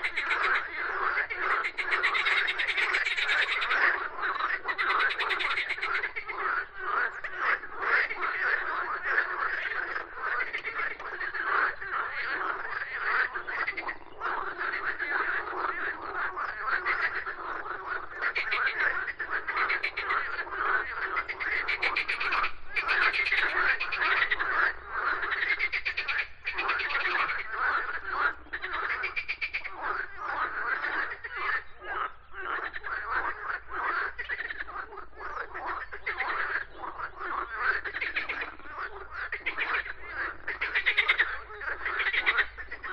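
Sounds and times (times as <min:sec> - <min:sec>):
frogs croaking: 0:00.0 - 0:42.9.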